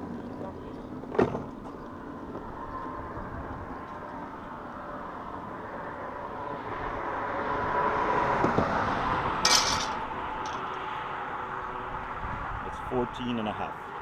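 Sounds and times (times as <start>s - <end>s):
road vehicle passing: 0.0s - 14.0s.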